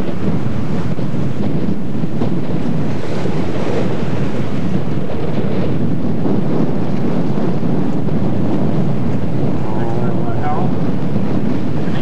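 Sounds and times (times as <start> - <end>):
sea rushing: 0.0 - 12.0
wind buffeting microphone: 0.0 - 12.0.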